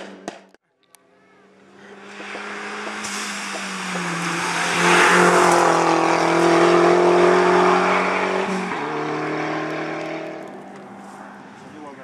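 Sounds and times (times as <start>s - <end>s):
race car driving past: 1.0s - 12.0s.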